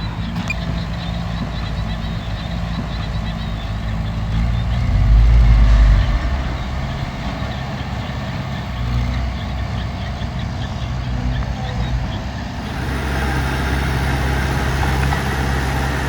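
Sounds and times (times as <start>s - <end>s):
heavy machinery diesel engine: 0.0s - 16.0s.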